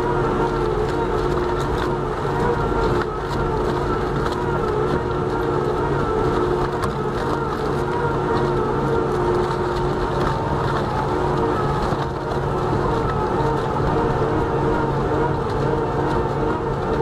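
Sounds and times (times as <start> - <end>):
rotor grinding a log: 0.0 - 17.0
wood cracking and snapping: 0.0 - 17.0
wood shredder humming: 0.0 - 17.0.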